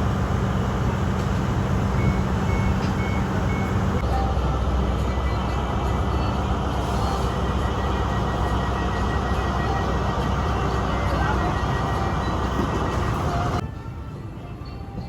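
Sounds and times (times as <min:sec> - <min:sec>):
vehicle running rumble: 0:00.0 - 0:13.7.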